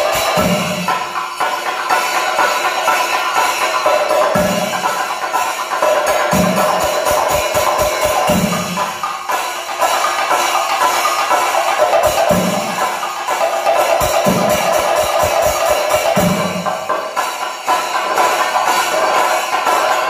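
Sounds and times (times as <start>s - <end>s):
fast drum roll with sticks: 0.0s - 20.0s
jingling cymbals: 0.0s - 20.0s.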